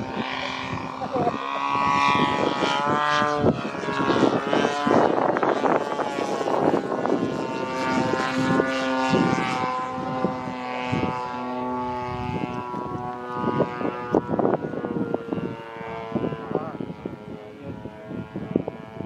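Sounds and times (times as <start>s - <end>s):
model plane engine droning: 0.0s - 19.0s
wind noise on microphone: 0.0s - 19.0s.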